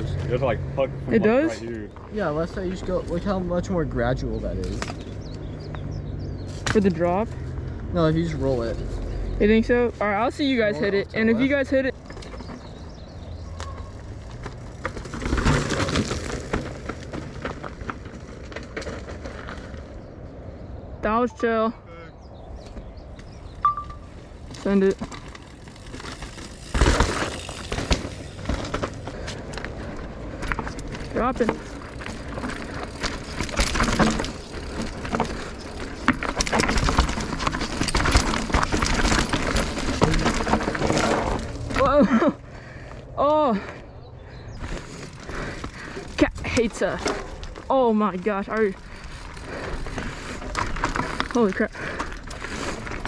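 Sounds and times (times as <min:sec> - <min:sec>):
bike tyres rumbling over rock: 0:00.0 - 0:20.3, 0:24.2 - 0:53.0
bike clicks and rattles: 0:01.2 - 0:20.4, 0:22.6 - 0:53.0.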